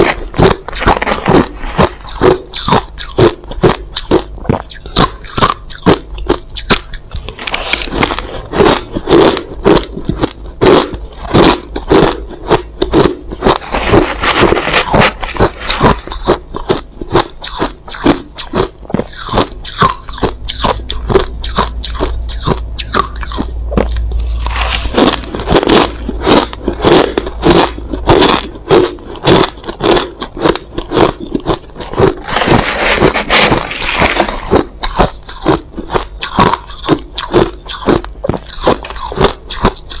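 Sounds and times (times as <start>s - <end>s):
chewing crushed ice: 0.0s - 40.0s.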